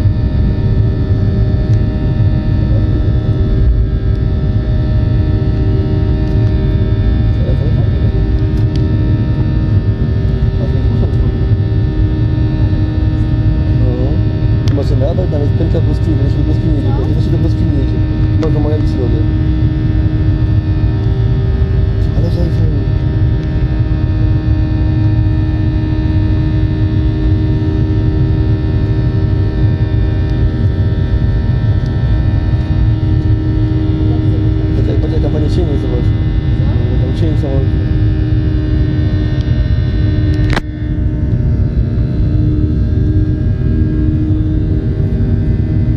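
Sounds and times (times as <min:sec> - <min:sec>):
airplane cabin engine rumble: 0:00.0 - 0:45.9
steady tonal hum: 0:00.0 - 0:45.9.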